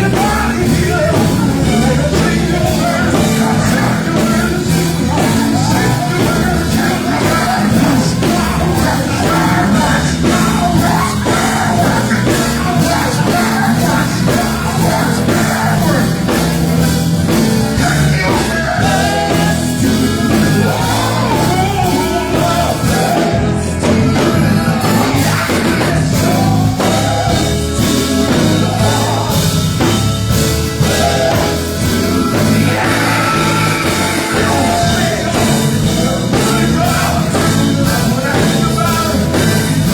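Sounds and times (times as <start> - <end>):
bass line: 0.0 - 39.9
drums: 0.0 - 39.9
gospel group singing: 0.0 - 39.9.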